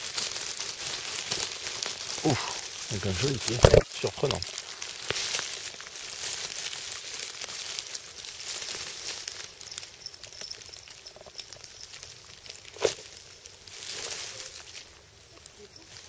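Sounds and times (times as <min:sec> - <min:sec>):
dry leaves and moss crackling: 0:00.0 - 0:16.0.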